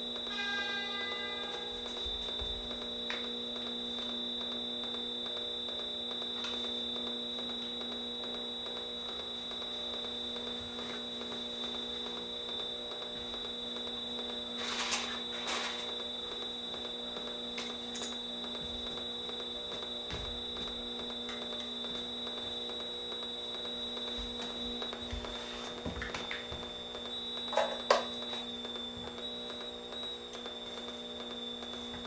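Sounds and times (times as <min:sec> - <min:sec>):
crackling noises: 0:00.0 - 0:32.0
electrical hum and drone: 0:00.0 - 0:32.0
high whine: 0:00.0 - 0:32.0.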